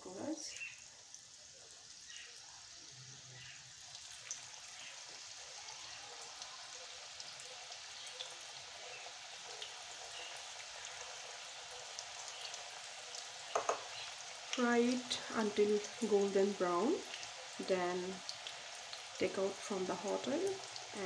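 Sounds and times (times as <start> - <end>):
batter frying in oil: 0.0 - 21.0.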